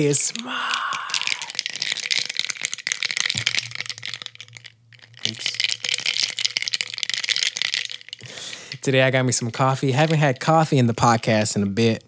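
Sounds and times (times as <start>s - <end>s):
coffee rattling in glass jar: 0.0s - 12.0s.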